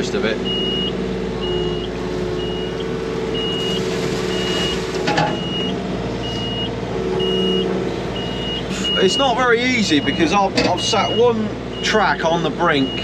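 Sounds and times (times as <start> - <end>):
diesel engine humming: 0.0 - 13.0
warning alarm beeping: 0.4 - 13.0.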